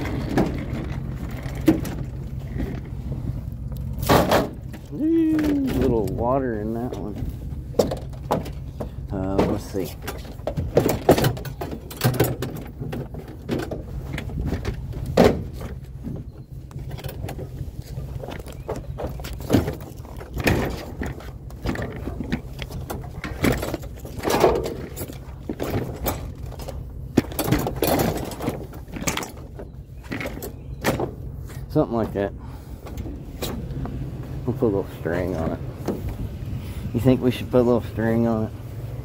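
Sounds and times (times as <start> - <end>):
scrap metal clanking and rattling: 0.0 - 38.5
vehicle engine idling: 0.0 - 39.0.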